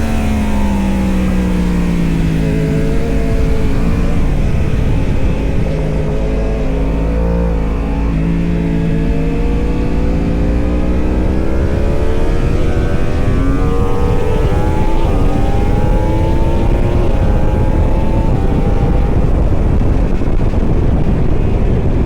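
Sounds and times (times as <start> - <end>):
low rumble of wind or road noise: 0.0 - 22.0
superbike engine accelerating: 0.0 - 22.0.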